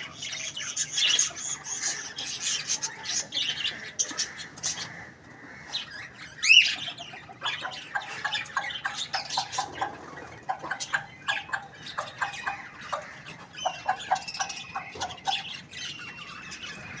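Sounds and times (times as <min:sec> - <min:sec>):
chicken squawk: 0:00.0 - 0:17.0
chickens clucking: 0:00.0 - 0:17.0.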